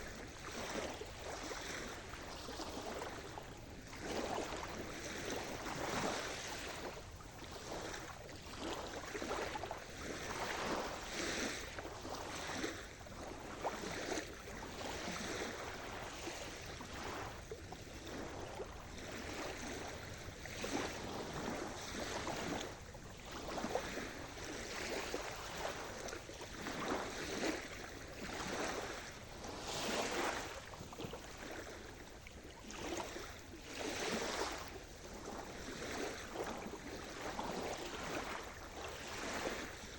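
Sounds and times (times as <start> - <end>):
small waves washing in: 0.0 - 39.9.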